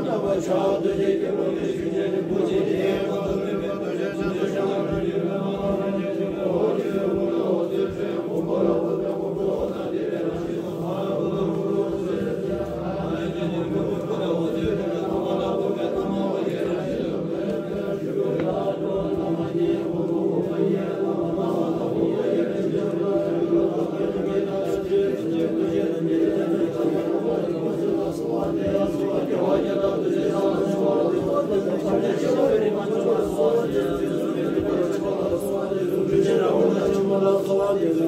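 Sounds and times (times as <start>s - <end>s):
monks chanting in deep voices: 0.0s - 38.0s.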